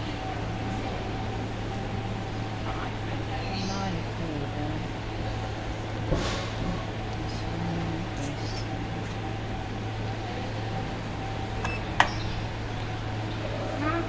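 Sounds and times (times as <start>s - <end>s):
elevator car humming: 0.0s - 14.0s.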